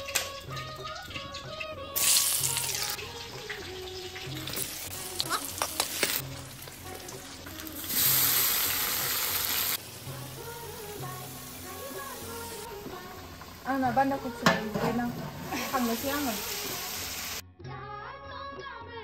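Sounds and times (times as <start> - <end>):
food sizzling in a wok: 0.0 - 17.4.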